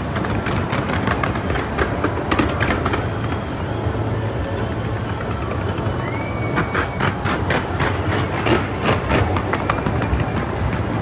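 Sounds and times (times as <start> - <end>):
fireworks crackles and pops: 0.0 - 11.0
fireworks rumbling bursts: 0.0 - 11.0.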